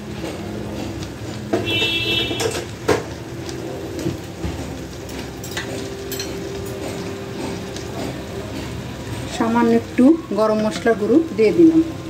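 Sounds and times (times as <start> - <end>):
pots and utensils clattering: 0.0 - 11.3.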